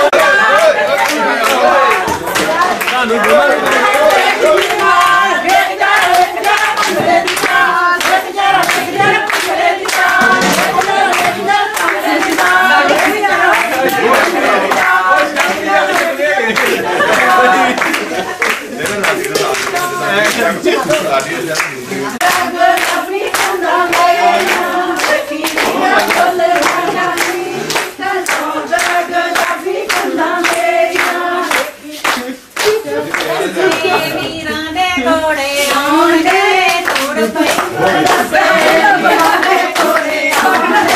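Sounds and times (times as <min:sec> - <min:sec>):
hand clapping: 0:00.0 - 0:34.1, 0:35.6 - 0:40.9
group singing folk couplets: 0:00.0 - 0:40.9.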